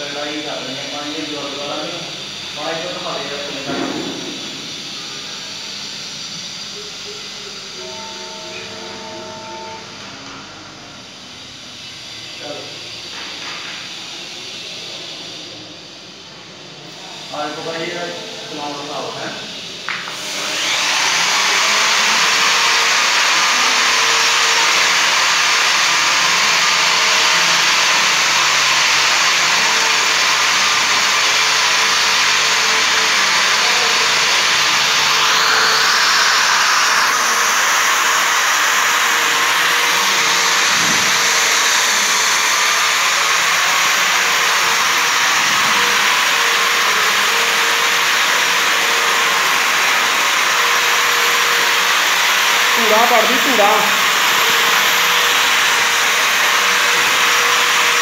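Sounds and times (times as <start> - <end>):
electric wall sander whooshing: 0.0 - 9.6, 16.9 - 58.0.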